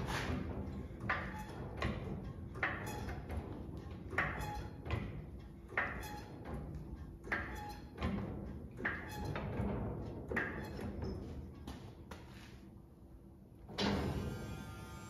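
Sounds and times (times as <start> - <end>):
suspension creaking and clunking: 0.0 - 12.7, 13.6 - 14.6.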